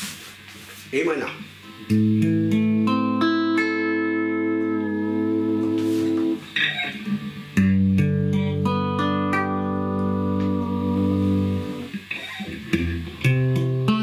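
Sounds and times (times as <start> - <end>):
electric guitar chords and picked notes: 1.5 - 14.0.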